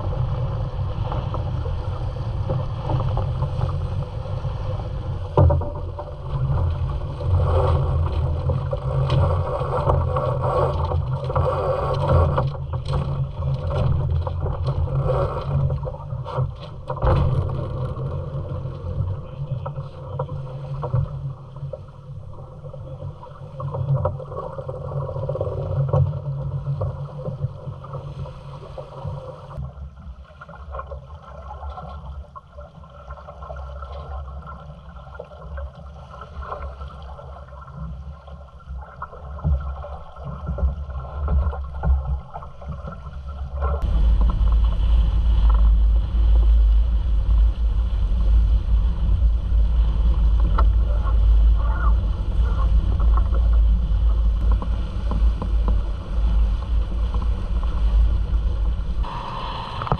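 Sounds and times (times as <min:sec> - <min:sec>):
wind noise: 0:00.0 - 0:29.8, 0:35.6 - 0:59.9
deep low rumble: 0:00.0 - 0:30.3, 0:35.8 - 0:59.9
water rushing along hull: 0:00.0 - 0:59.9.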